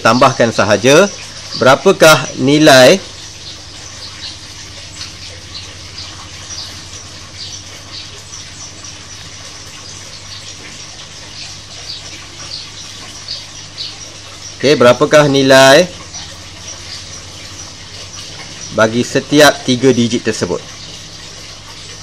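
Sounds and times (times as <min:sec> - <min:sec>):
low electrical hum: 0:00.0 - 0:22.0
small birds chirping: 0:00.0 - 0:22.0.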